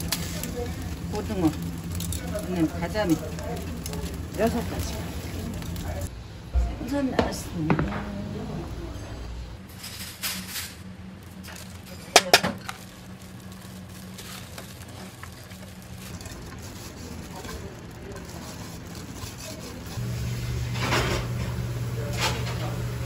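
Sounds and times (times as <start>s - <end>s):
food rustling in metal pan: 0.0s - 6.1s, 9.7s - 22.8s
steady low hum: 0.0s - 23.0s.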